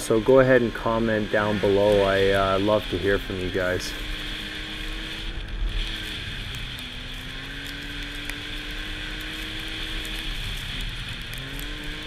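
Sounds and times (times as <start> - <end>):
snowmobile engine running: 0.0 - 12.0
track noise: 0.0 - 12.0.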